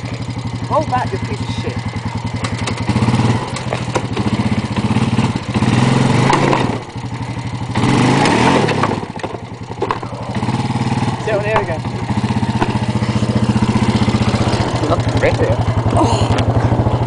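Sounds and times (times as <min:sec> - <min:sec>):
vehicle engine revving: 0:00.0 - 0:17.0
knocks and clatters: 0:02.4 - 0:07.0, 0:07.8 - 0:16.8.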